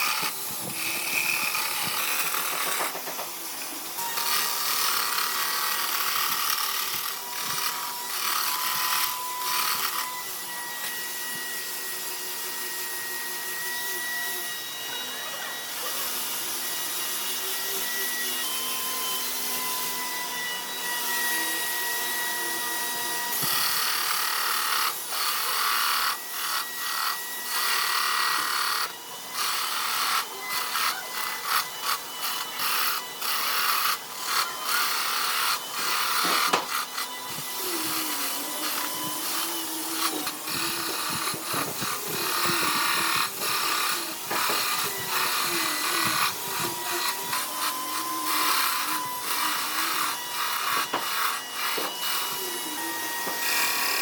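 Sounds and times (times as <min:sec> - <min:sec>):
power tool whining against wood: 0:00.0 - 0:54.0.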